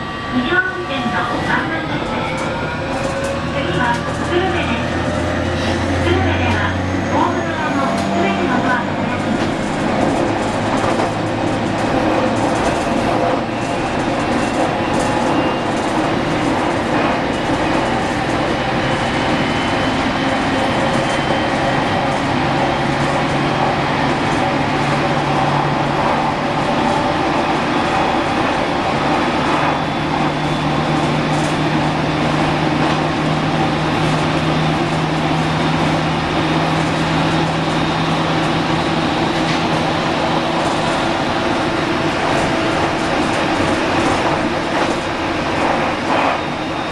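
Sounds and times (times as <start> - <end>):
train wheel and rail noise: 0.0 - 46.9.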